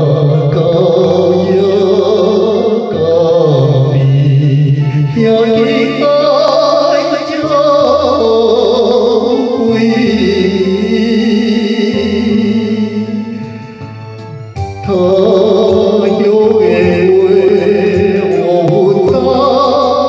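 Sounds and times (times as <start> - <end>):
instrumental backing with bass line: 0.0 - 20.0
person singing a ballad: 0.0 - 20.0.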